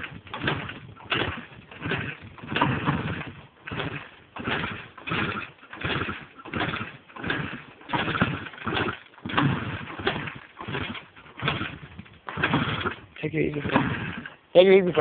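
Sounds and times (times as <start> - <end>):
two-stroke engine turning over: 0.0 - 15.0.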